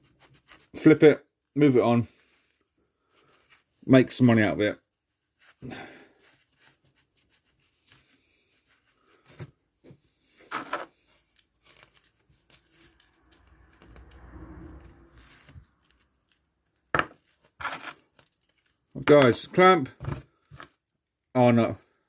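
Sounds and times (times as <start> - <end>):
rustling and scraping: 2.0 - 21.0.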